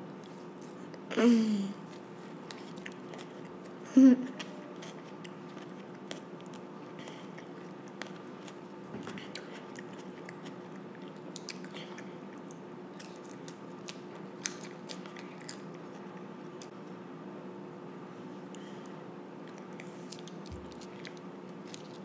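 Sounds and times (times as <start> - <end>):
child chewing salad: 0.0 - 17.0, 18.3 - 22.0
steady low hum: 0.0 - 22.0.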